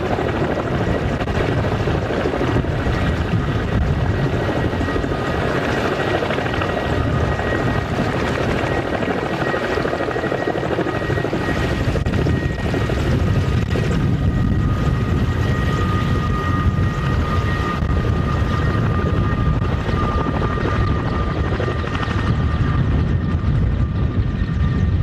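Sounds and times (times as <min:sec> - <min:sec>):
helicopter rotor rumble: 0:00.0 - 0:25.0
high turbine whine: 0:00.0 - 0:25.0.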